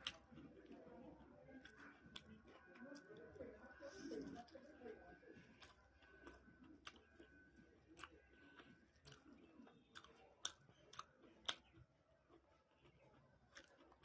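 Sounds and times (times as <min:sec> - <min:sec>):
person chewing wetly: 0:00.0 - 0:14.0.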